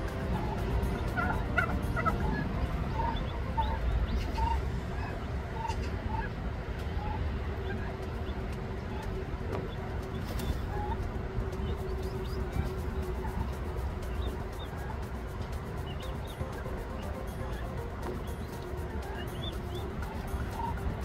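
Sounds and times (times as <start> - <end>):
turkey and poults calling: 0.0 - 21.0.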